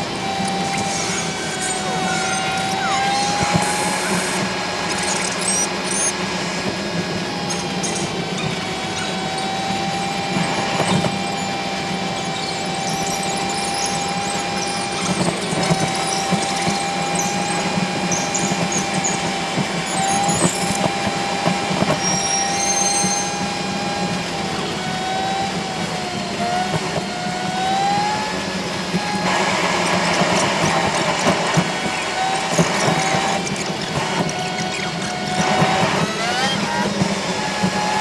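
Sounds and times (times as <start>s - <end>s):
machine high whine: 0.0s - 38.0s.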